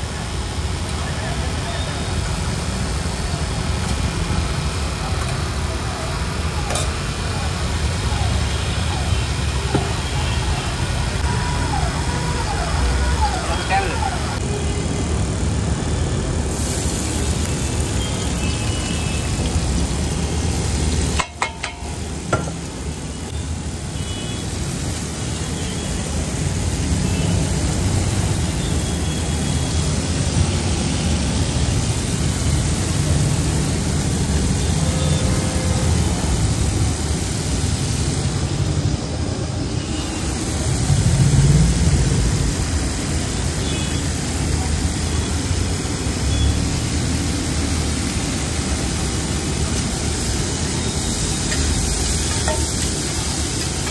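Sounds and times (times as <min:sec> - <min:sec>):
gas burner roar: 0:00.0 - 0:11.3, 0:13.2 - 0:53.9
oil and vegetables sizzling: 0:00.0 - 0:53.9.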